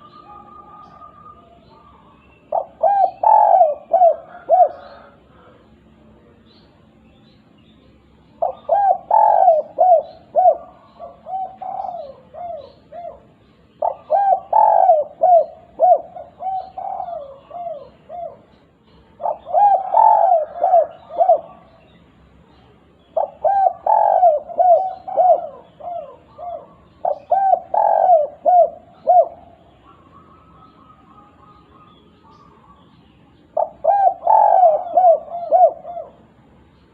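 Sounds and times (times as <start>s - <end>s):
dove cooing: 0.0s - 5.9s, 8.4s - 22.0s, 23.1s - 36.4s.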